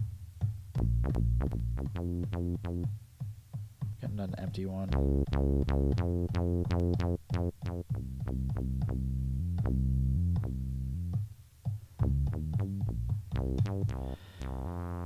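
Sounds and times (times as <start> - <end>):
sampled bass notes: 0.0 - 3.0, 3.9 - 15.0.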